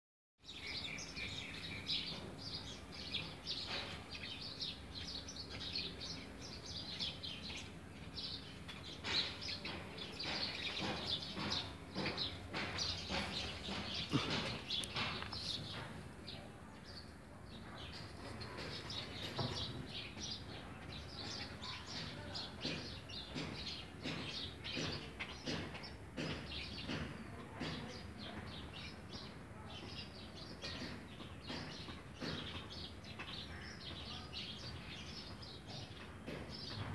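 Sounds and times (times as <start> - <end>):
small birds chirping: 0.4 - 36.9.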